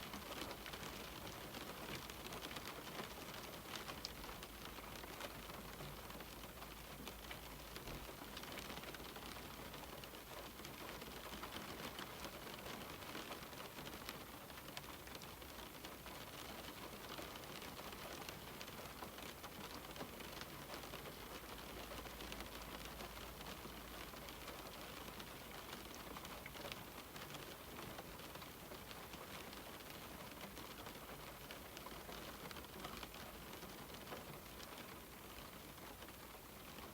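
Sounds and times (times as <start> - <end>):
rain on a window: 0.0 - 36.9.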